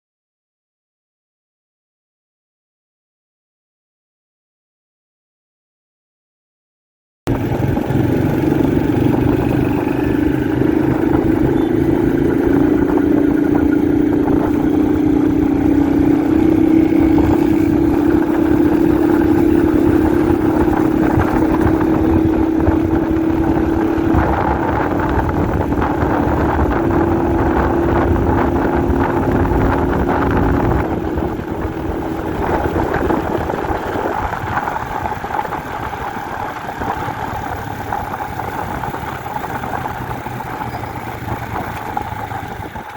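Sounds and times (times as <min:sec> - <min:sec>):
motorcycle engine running: 0:07.3 - 0:42.9.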